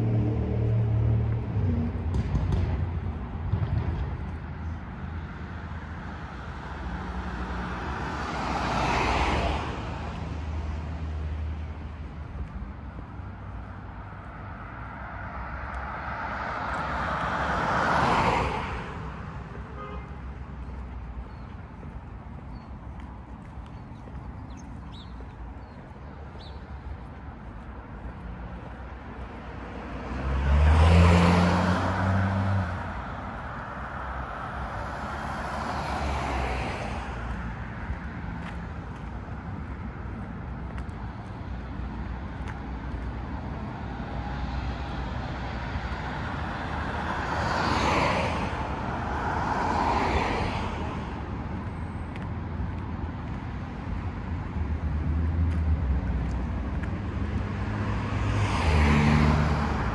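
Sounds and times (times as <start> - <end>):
background traffic rumble: 0.0 - 59.9
cars passing by: 0.0 - 59.9.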